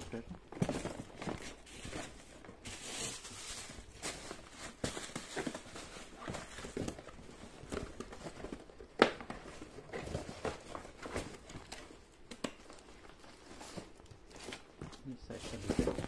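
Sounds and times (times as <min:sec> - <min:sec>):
cardboard rustling and scraping: 0:00.4 - 0:12.0, 0:12.6 - 0:16.0.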